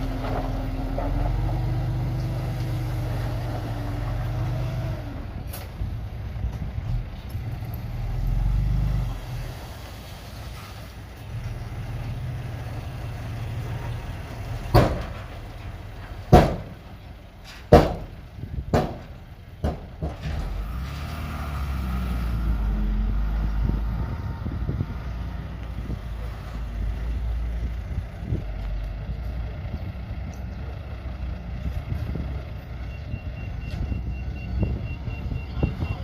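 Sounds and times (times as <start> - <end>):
diesel machinery engine rumbling: 0.0 - 36.0.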